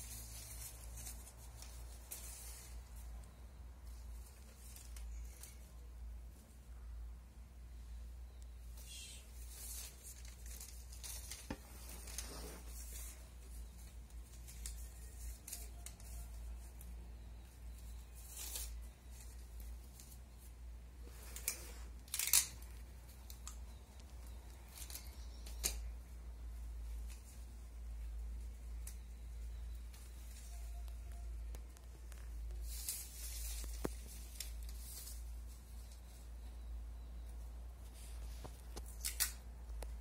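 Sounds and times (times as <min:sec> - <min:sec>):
newspaper rustling and crinkling: 0:00.0 - 0:05.8, 0:09.4 - 0:36.5.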